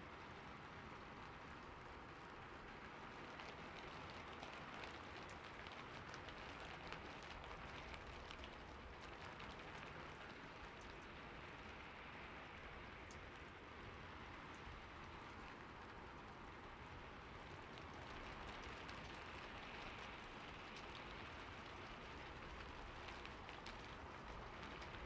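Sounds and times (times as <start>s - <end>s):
rain on a roof: 0.0s - 25.0s.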